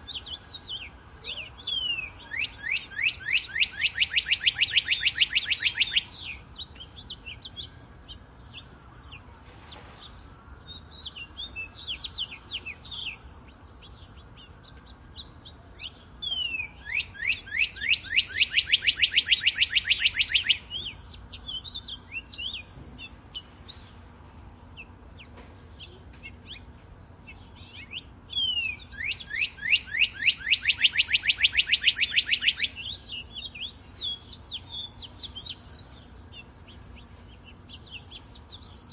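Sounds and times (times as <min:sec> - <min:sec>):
songbird rapid trill: 0:00.0 - 0:08.6, 0:13.8 - 0:23.8, 0:24.7 - 0:38.9
birds chirping: 0:00.0 - 0:38.9.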